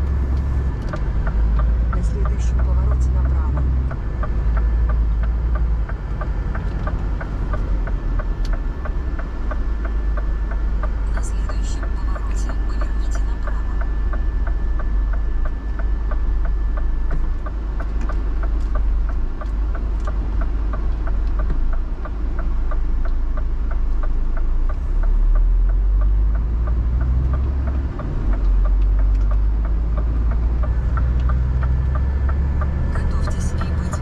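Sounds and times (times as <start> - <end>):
diesel truck engine rumbling: 0.0 - 34.0.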